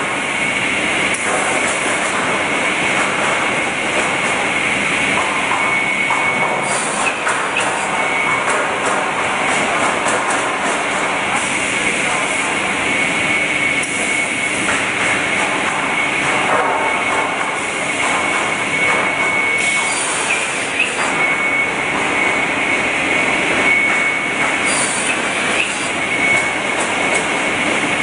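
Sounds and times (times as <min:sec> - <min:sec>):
sawing machine with high whine: 0:02.4 - 0:09.8, 0:10.8 - 0:28.0.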